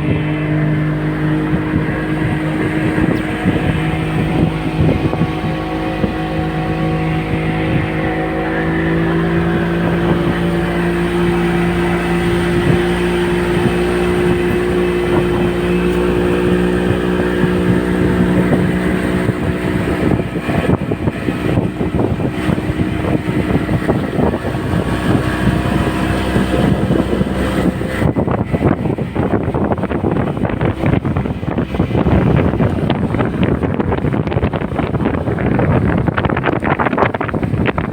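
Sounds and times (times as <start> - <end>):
choppy rushing water with knocks: 0.0 - 37.9
speedboat engine running: 0.0 - 37.9.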